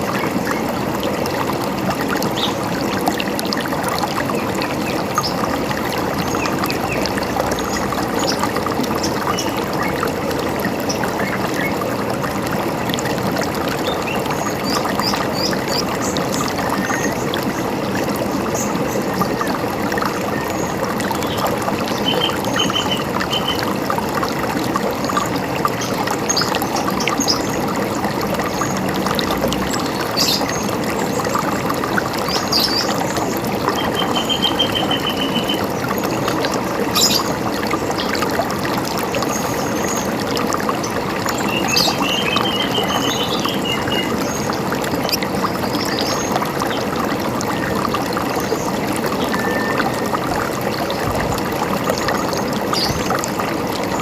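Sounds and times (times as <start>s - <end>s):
river water running: 0.0s - 54.0s.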